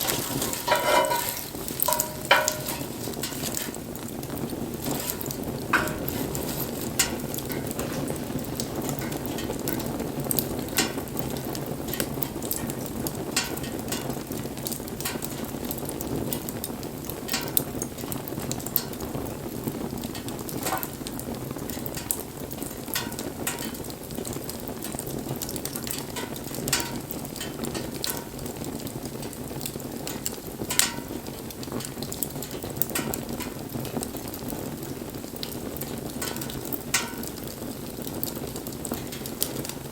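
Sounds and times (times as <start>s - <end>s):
campfire flames rushing: 0.0s - 39.9s
fire crackling and popping: 0.0s - 39.9s.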